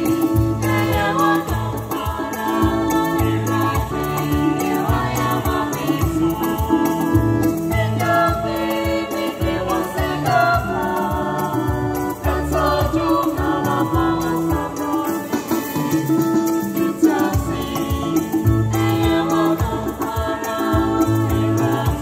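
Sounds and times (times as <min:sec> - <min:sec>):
keyboard chords and bass line: 0:00.0 - 0:22.0
vocal group singing in harmony: 0:00.0 - 0:22.0.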